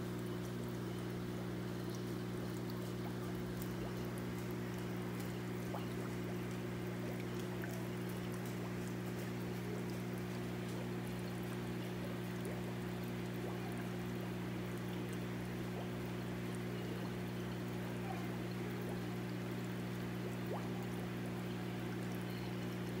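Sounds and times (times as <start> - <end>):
steady low equipment hum: 0.0 - 23.0
water pouring into a tank: 0.0 - 23.0.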